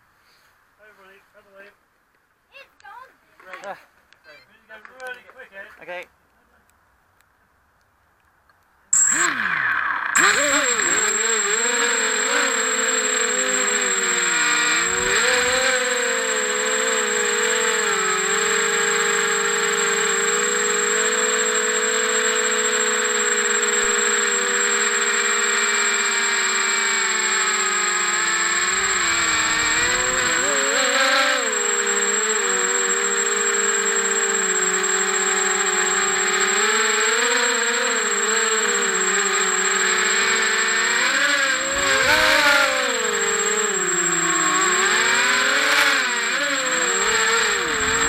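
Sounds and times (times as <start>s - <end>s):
drone propellers buzzing: 9.0s - 48.0s
steady high whine: 9.0s - 48.0s.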